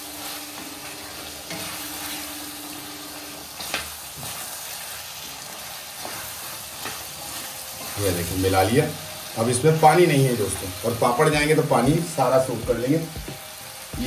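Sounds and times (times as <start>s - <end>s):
spice mix sizzling: 0.0s - 14.0s.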